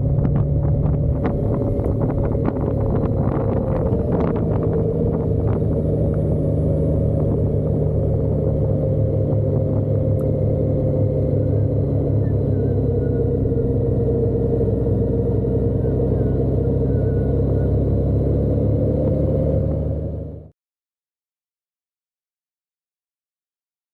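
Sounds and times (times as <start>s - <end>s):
motorcycle engine cruising: 0.0s - 20.5s
road and wind noise: 0.0s - 20.5s.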